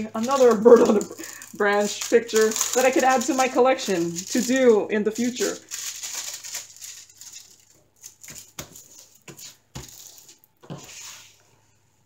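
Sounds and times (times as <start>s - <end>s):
plastic film crinkling: 0.0s - 10.6s.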